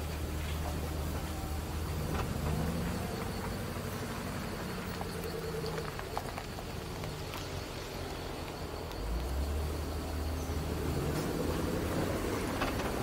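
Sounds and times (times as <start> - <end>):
truck engine rumbling: 0.0 - 13.0
tyres crackling over gravel: 0.0 - 13.0.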